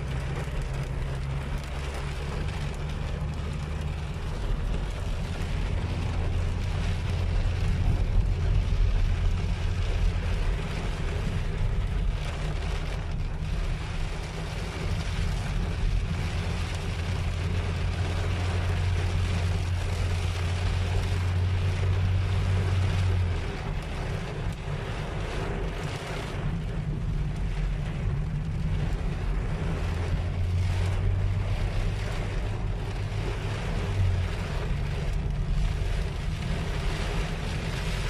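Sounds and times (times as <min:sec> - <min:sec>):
heavy rain on a car: 0:00.0 - 0:38.0
low car hum: 0:00.0 - 0:38.0.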